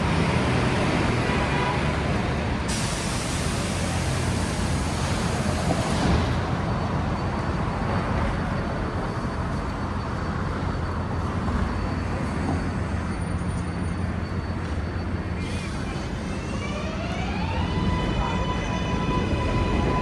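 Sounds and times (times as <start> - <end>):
city street rumble: 0.0 - 20.0.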